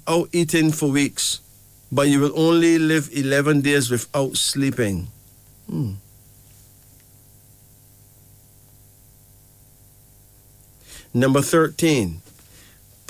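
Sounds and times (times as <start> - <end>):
faint steady hiss: 0.0 - 13.0
low electrical hum: 0.0 - 13.0.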